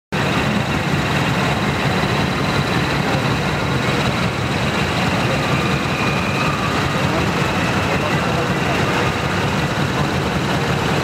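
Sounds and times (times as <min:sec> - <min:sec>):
diesel engine idling: 0:00.1 - 0:11.0.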